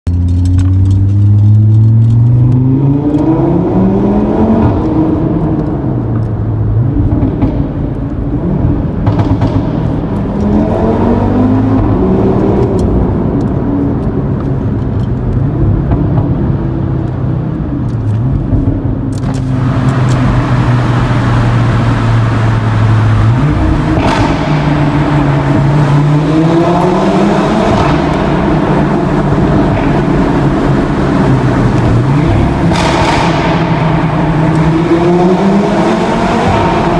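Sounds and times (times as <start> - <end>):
car engine accelerating: 0.1 - 36.9.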